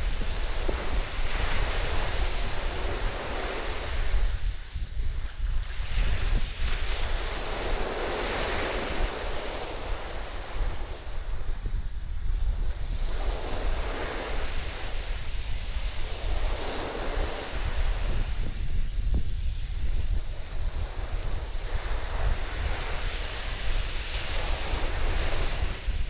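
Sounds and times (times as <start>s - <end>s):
surf breaking on sand: 0.0s - 26.0s
wind buffeting microphone: 0.0s - 26.0s.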